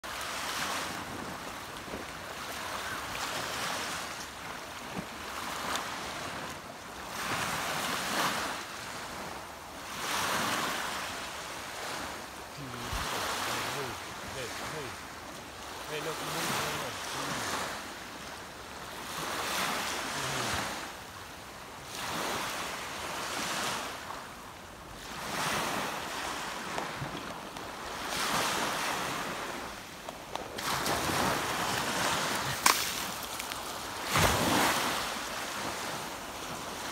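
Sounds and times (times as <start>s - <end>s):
waves washing up on sand: 0.0s - 36.9s.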